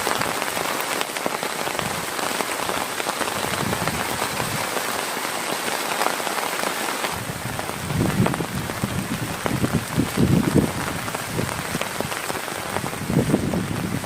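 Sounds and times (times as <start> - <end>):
heavy rain hiss: 0.0 - 14.0
heavy raindrop thuds: 0.0 - 14.0.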